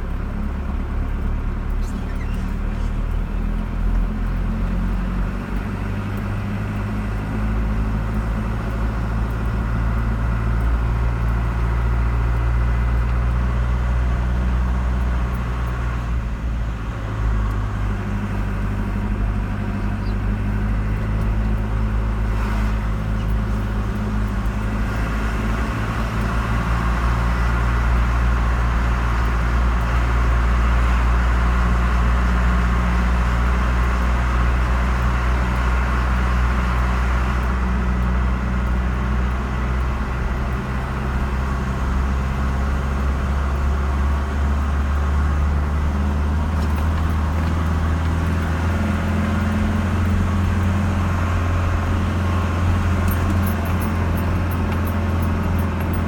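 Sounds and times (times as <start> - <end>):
car engine drone: 0.0 - 56.0
road and tyre noise: 0.0 - 56.0.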